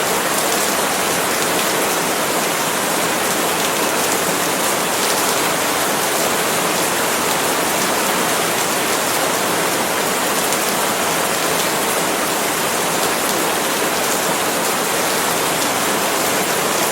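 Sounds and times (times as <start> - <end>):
heavy rain on palm leaves: 0.0 - 16.9.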